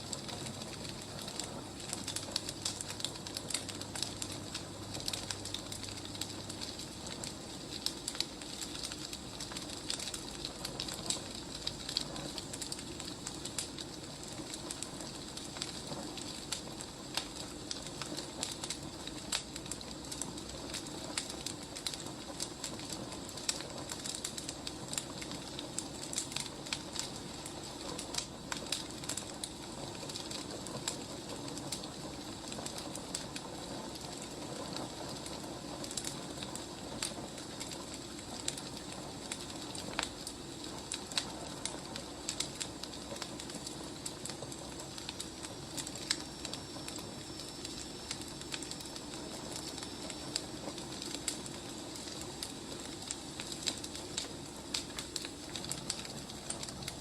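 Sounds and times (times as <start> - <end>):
firewood crackling: 0.0 - 57.0.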